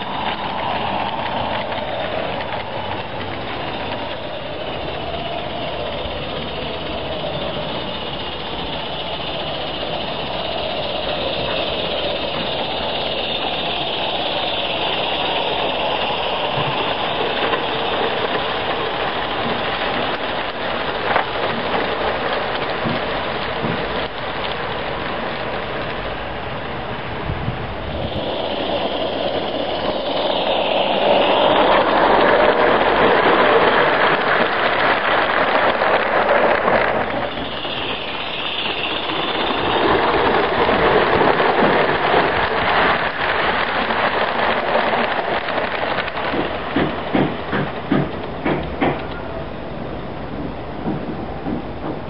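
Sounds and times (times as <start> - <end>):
steam locomotive hissing: 0.0 - 52.0
wheels clicking over rail joints: 0.0 - 52.0.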